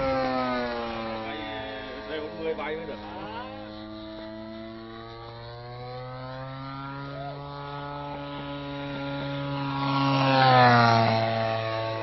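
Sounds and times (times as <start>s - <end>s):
model airplane engine: 0.0s - 12.0s.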